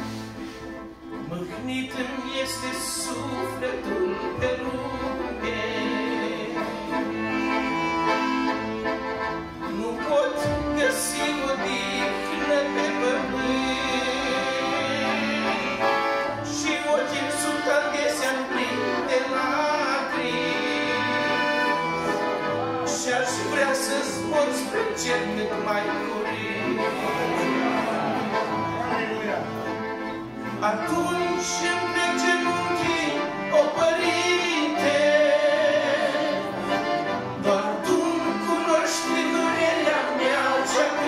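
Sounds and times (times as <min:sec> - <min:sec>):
accordions playing a hymn: 0:00.0 - 0:41.0.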